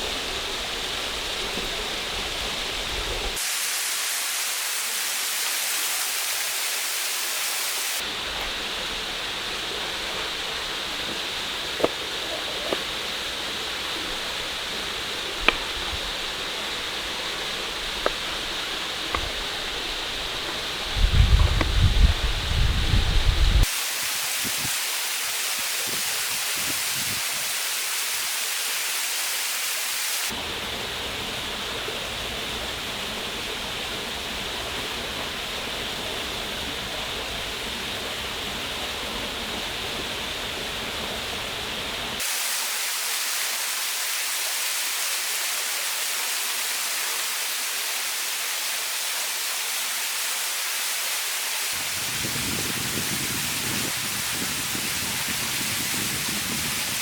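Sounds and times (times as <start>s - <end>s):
rush of falling water: 0.0s - 57.0s.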